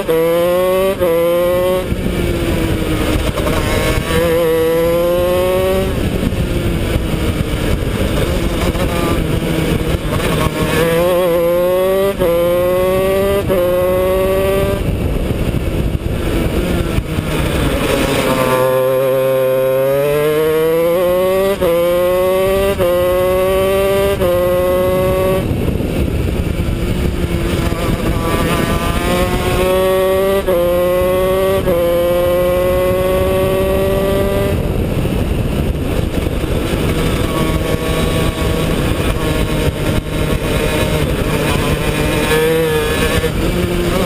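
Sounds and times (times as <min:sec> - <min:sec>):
kart engine at full throttle: 0:00.0 - 0:44.0.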